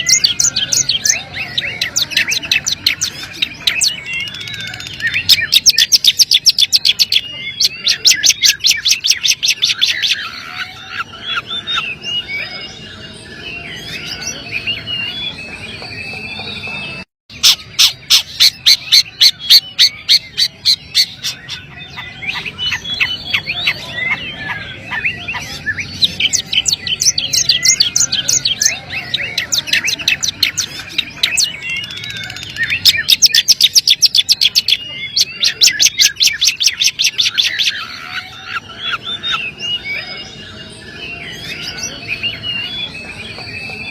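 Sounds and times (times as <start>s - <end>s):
bird singing: 0.0s - 43.9s.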